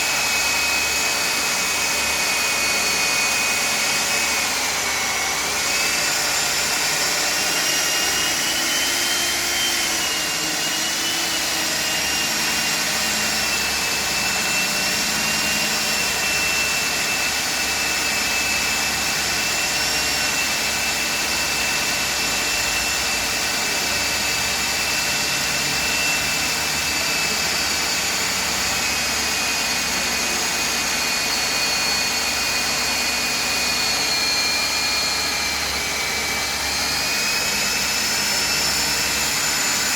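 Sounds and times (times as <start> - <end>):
core drill boring into concrete: 0.0 - 39.9.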